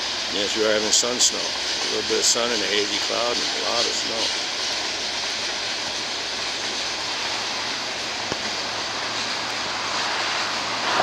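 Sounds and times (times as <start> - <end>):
steel wheels hissing on rails: 0.0 - 11.0.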